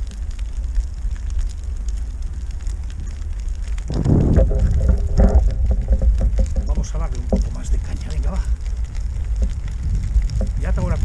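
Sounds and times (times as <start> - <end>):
wind buffeting the microphone: 2.2 - 11.0.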